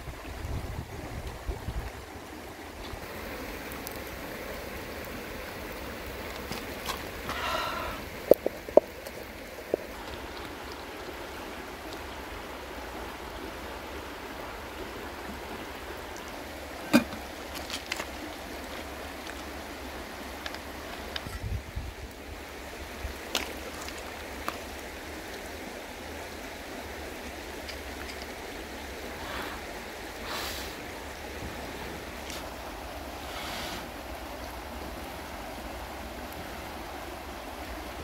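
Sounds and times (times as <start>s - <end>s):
river running over stones: 0.0s - 38.0s.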